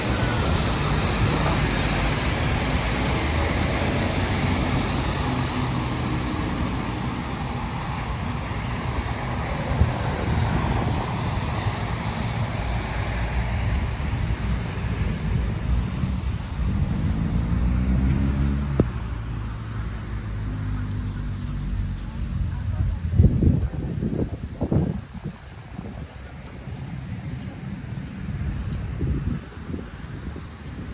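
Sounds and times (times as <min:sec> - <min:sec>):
city traffic on wet streets: 0:00.0 - 0:30.9.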